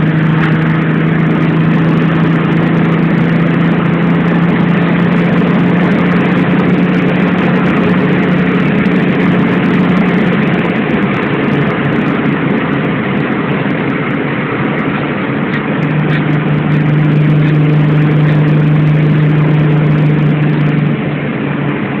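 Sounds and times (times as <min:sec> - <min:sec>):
car engine cruising: 0:00.0 - 0:22.0
road and wind noise: 0:00.0 - 0:22.0.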